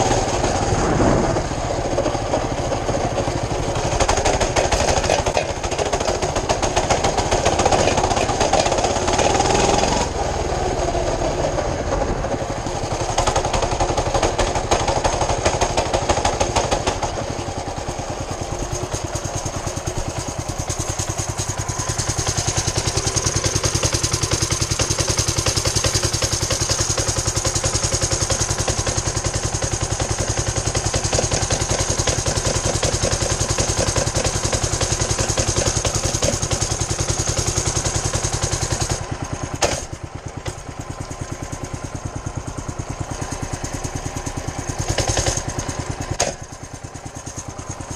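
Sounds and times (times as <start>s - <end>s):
mini bike engine revving and idling: 0.0s - 47.9s.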